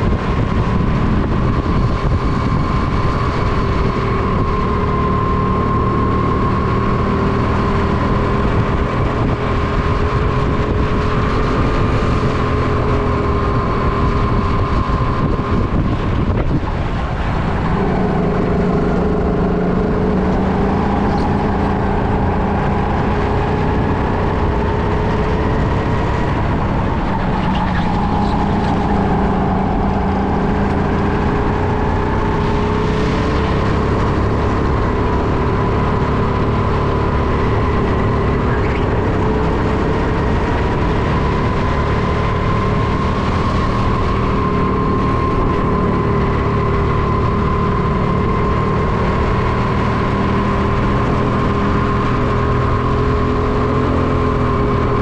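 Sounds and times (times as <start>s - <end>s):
go-kart motor running: 0.0s - 55.0s
steady rush of noise: 0.0s - 55.0s.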